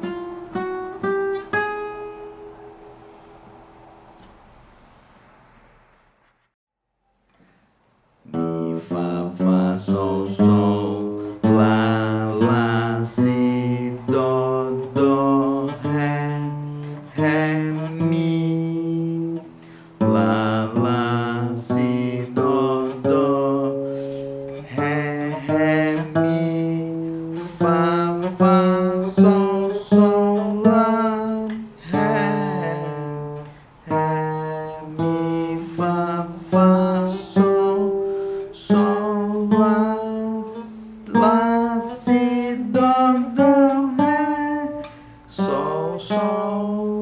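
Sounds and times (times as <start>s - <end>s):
acoustic guitar single notes: 0.0s - 5.1s, 7.3s - 47.0s
person singing: 8.3s - 47.0s.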